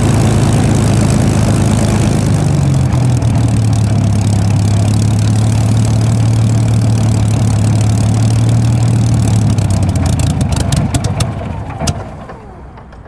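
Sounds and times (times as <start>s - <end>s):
aircraft engine idling: 0.0s - 13.0s
engine and propeller clicking: 0.0s - 13.0s.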